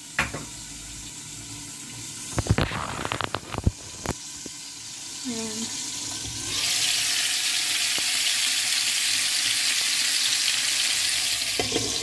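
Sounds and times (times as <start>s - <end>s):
wings frying in hot oil: 0.0s - 12.0s.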